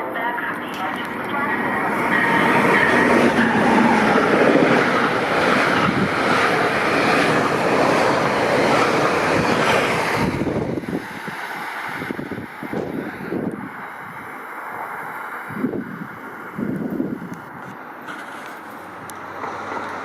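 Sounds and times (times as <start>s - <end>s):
train passing at speed: 0.0s - 20.0s
wind buffeting microphone: 1.0s - 17.8s.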